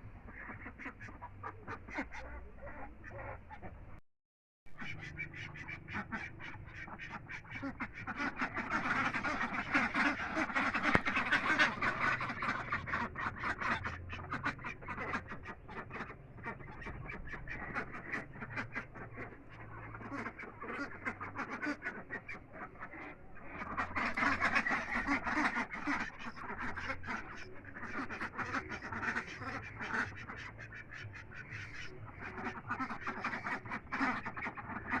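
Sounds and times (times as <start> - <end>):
ducks quacking: 0.0 - 4.0, 4.7 - 35.0.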